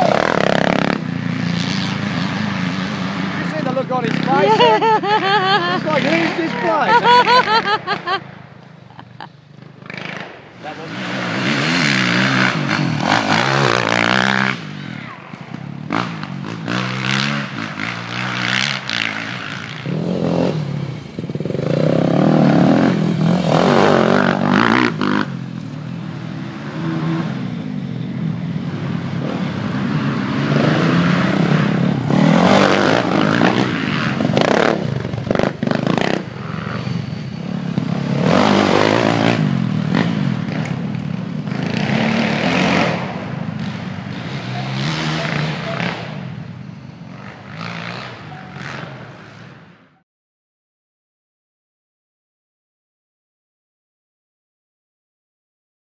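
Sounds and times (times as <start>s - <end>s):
dirt bike engines revving: 0.0s - 49.8s.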